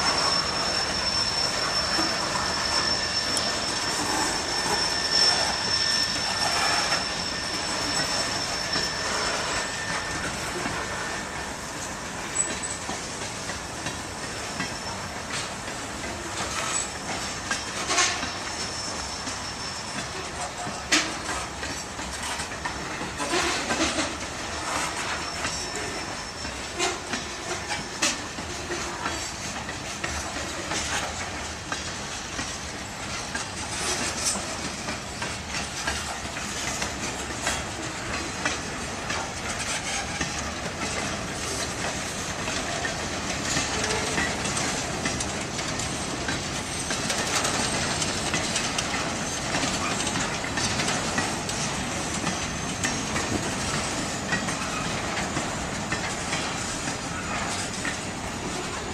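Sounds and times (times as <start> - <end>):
freight train cars rolling past: 0.0 - 58.9.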